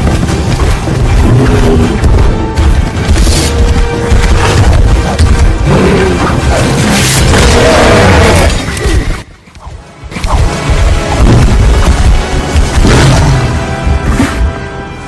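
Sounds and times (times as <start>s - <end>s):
dramatic film score: 0.0s - 15.0s.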